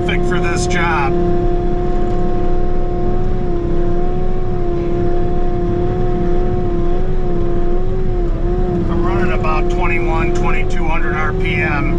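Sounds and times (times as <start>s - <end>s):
diesel engine running with whine: 0.0s - 11.9s.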